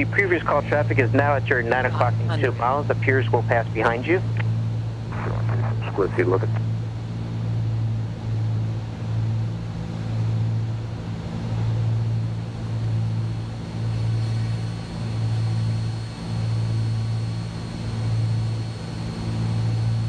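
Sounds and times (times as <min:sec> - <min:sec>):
aircraft engines droning in cockpit: 0:00.0 - 0:20.0.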